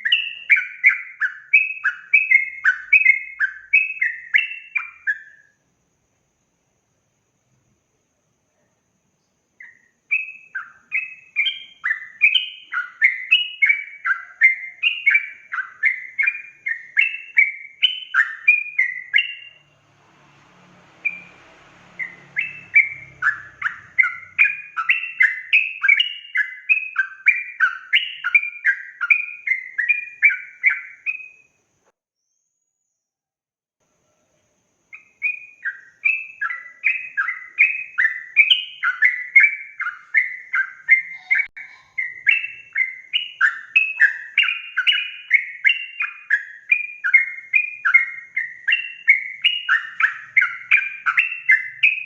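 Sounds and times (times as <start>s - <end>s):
bird singing bubbly chirps: 0.0s - 5.5s, 9.6s - 19.8s, 22.0s - 31.5s, 34.9s - 52.0s.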